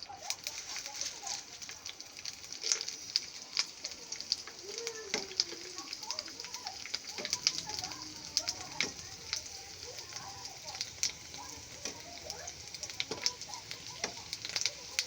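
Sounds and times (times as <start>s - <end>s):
frying sizzle with crackling pops: 0.0s - 15.0s.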